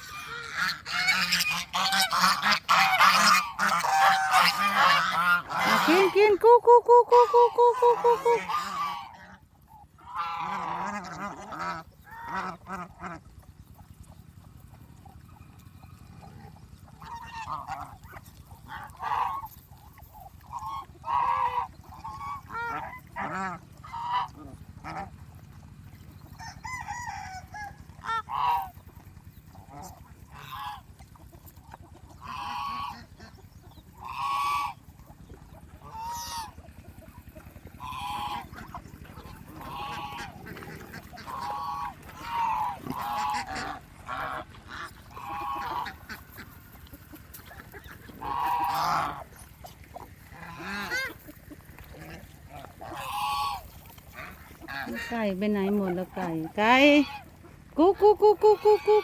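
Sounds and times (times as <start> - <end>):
geese honking: 0.0 - 14.1, 15.3 - 59.0
farmyard fowl calls: 0.0 - 59.0.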